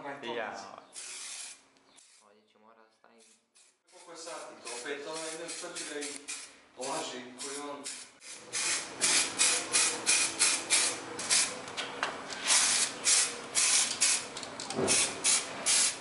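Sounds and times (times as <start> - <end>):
spray paint can hissing: 1.0 - 2.3, 3.2 - 11.5, 12.4 - 16.0.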